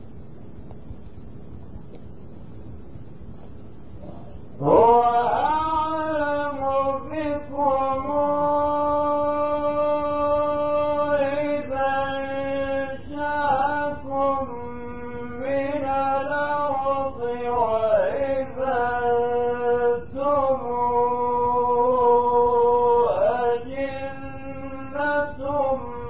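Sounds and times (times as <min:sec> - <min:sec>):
man chanting melodic recitation: 0:04.0 - 0:26.0.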